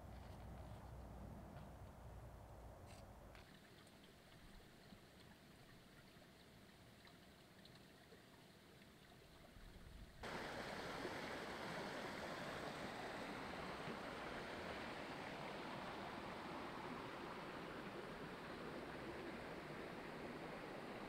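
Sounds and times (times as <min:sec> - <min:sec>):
stream flowing: 0:03.2 - 0:21.0.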